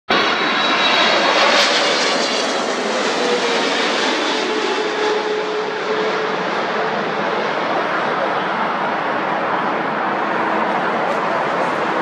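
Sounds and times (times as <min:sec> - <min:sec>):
jet plane passing overhead: 0:00.1 - 0:12.0.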